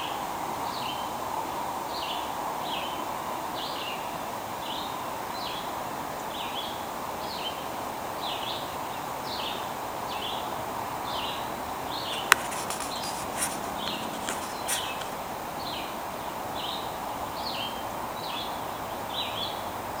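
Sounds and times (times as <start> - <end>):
running stream: 0.0 - 20.0.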